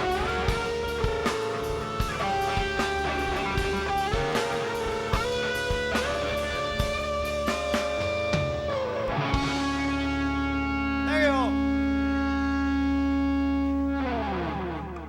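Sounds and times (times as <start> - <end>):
electric guitar long notes: 0.0 - 15.0.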